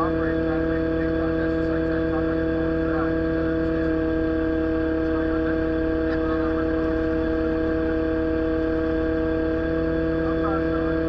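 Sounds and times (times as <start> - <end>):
excavator diesel engine droning: 0.0 - 11.0
hydraulic pump whine: 0.0 - 11.0.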